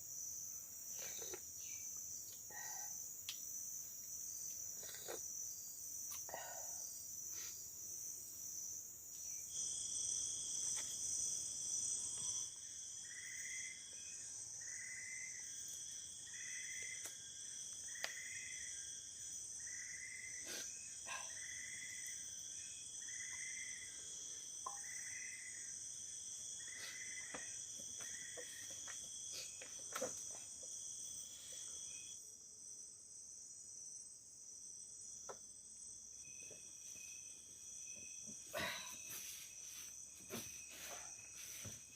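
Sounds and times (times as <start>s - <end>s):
insects buzzing and trilling: 0.0s - 41.9s
lower insect trill: 0.0s - 41.9s.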